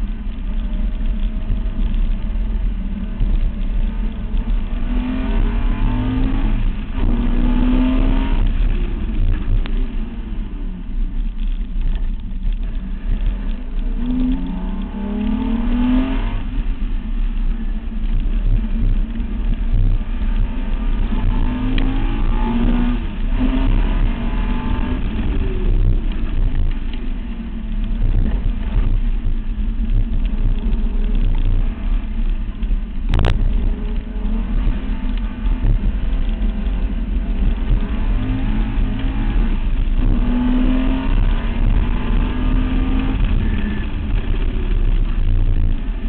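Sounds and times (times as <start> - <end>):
car engine revving: 0.0 - 46.0
wind and tyre rumble: 0.0 - 46.0.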